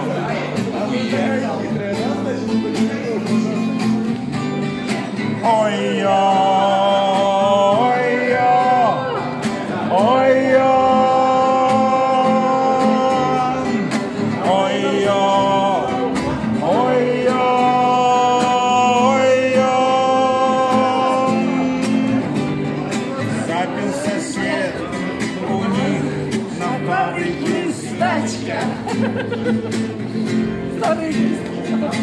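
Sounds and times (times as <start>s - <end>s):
man singing: 0.0s - 29.5s
acoustic guitar strumming: 0.0s - 32.0s.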